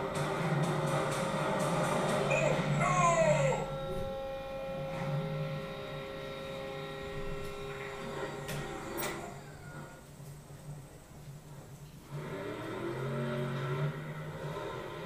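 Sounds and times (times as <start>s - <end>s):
steady electronic hum: 0.0s - 15.0s.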